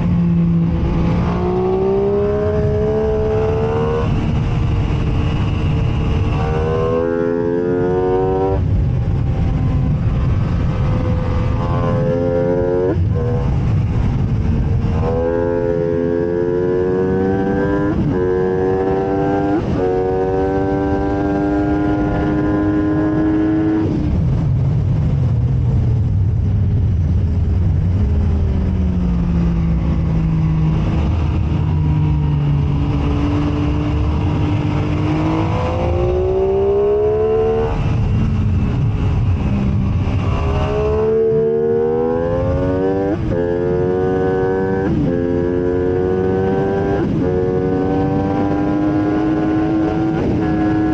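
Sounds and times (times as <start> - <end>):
motorcycle engine revving: 0.0 - 24.4, 27.5 - 50.9.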